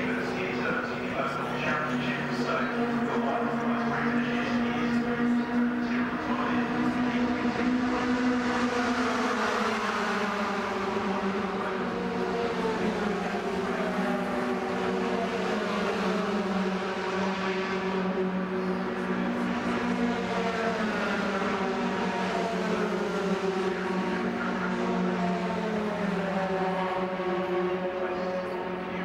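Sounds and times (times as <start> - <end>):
racing truck engines passing: 0.0 - 29.0.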